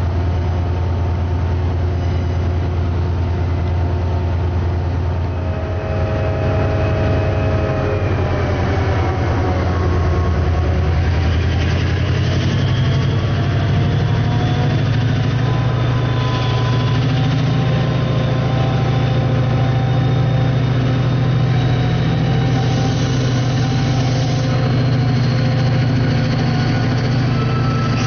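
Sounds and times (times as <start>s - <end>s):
diesel train engine idling: 0.0s - 28.0s.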